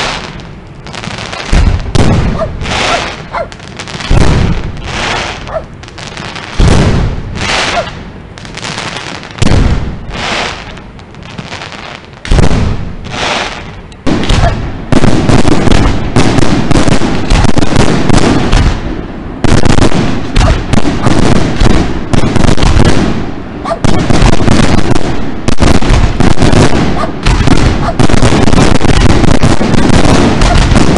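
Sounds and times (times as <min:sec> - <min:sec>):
fireworks booming: 0:00.0 - 0:30.9
fireworks crackle: 0:00.0 - 0:30.9
rapid barrage of fireworks bangs: 0:00.0 - 0:30.9.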